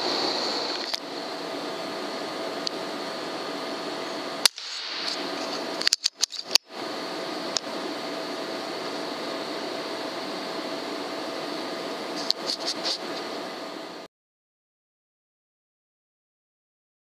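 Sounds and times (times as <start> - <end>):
recorder hiss and hum: 0.0 - 14.1.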